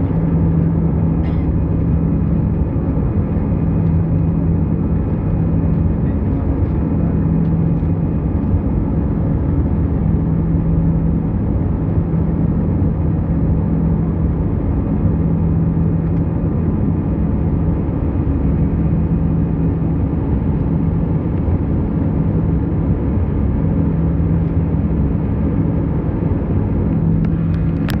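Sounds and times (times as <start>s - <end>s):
airliner engines droning: 0.0s - 28.0s
low hum: 0.0s - 28.0s.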